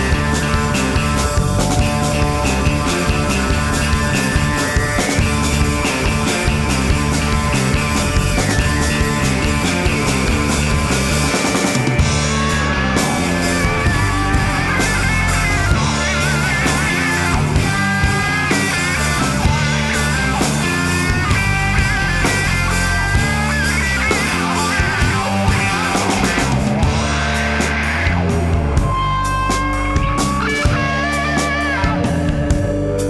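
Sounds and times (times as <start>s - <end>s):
rock music with lead guitar: 0.0s - 33.0s.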